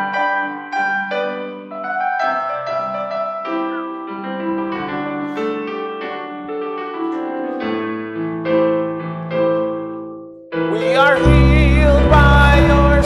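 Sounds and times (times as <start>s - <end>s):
piano playing chords: 0.0s - 13.0s.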